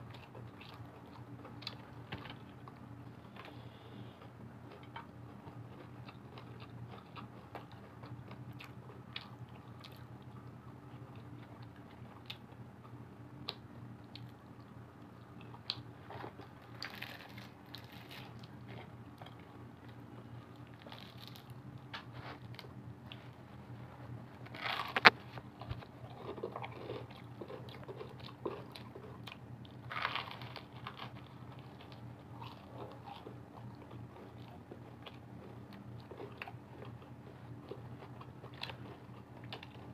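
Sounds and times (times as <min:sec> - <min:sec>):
crunching fried chicken: 0:04.2 - 0:39.9.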